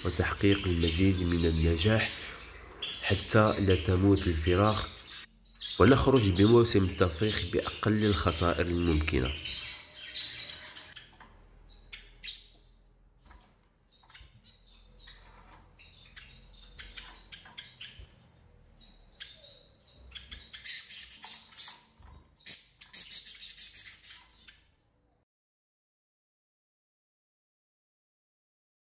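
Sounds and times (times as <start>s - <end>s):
small cage birds chirping: 0.0s - 25.2s.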